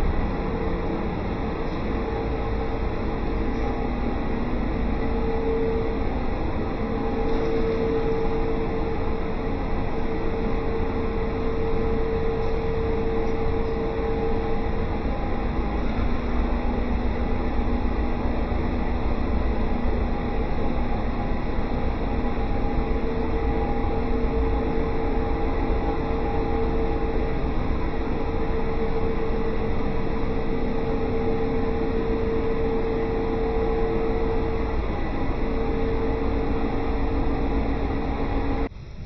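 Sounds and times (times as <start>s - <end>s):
pool machinery humming: 0.0s - 39.0s.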